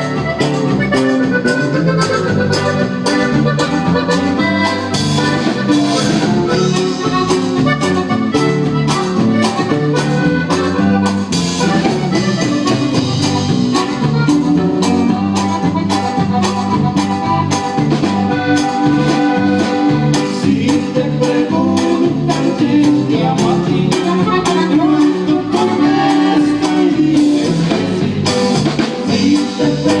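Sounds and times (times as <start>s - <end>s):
accordion: 0.0s - 30.0s
band playing steady beat: 0.0s - 30.0s.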